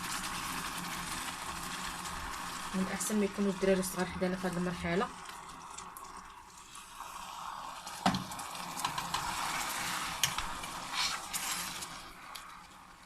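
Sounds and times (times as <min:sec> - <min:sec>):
caramel sizzling and bubbling: 0:00.0 - 0:13.0.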